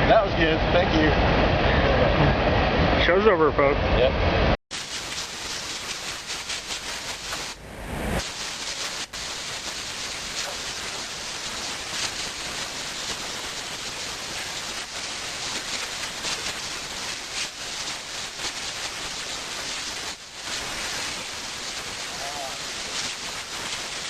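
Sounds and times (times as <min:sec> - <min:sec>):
steady hiss: 0:04.7 - 0:24.0.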